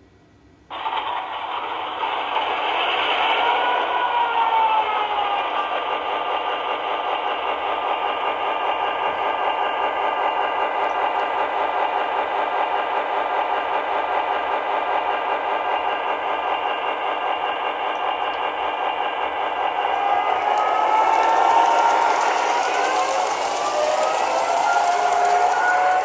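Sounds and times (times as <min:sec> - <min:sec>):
model locomotive diesel engine sound: 0:00.0 - 0:26.0.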